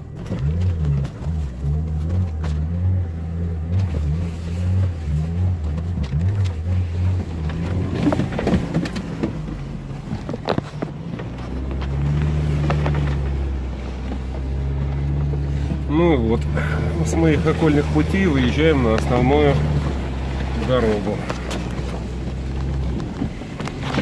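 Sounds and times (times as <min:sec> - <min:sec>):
car engine labouring: 0:00.0 - 0:24.0
car knocks and clunks over ruts: 0:00.0 - 0:24.0.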